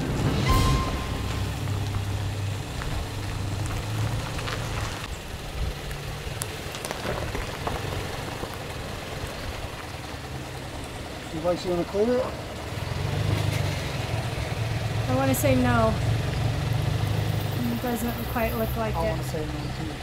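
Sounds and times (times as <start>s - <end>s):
truck engine low hum: 0.0s - 20.0s.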